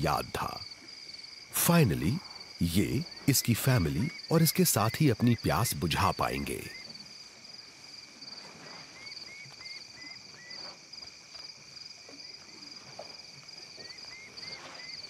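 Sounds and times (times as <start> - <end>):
insect buzz: 0.0 - 15.0
insects chirping: 0.0 - 15.0.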